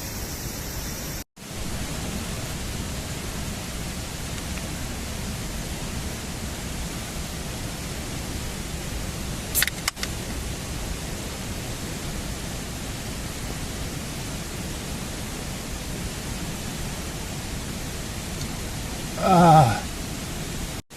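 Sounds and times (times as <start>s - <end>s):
steady rushing noise: 0.1s - 20.8s.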